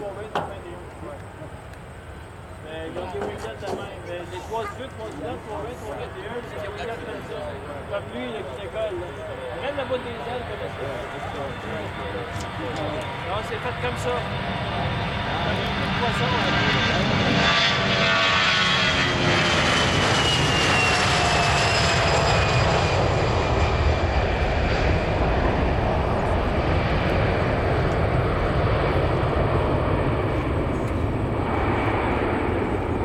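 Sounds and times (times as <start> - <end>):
jet engine roar: 0.0 - 33.0
jet engine whine: 0.0 - 33.0.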